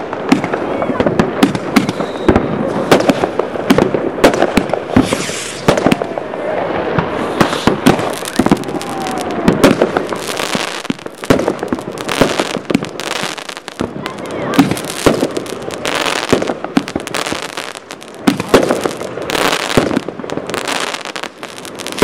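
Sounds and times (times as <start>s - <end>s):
fireworks bangs and crackles: 0.0s - 22.0s
fireworks hiss: 0.0s - 22.0s.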